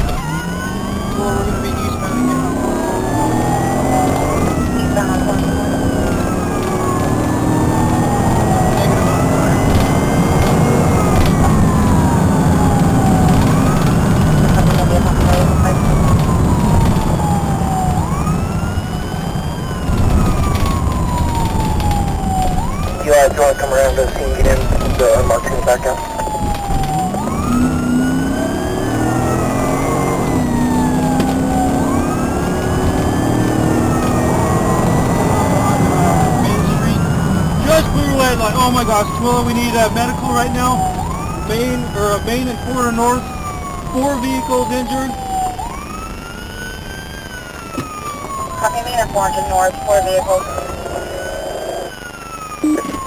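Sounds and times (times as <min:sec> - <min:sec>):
car engine and road noise: 0:00.0 - 0:53.0
police siren wailing: 0:00.0 - 0:53.0.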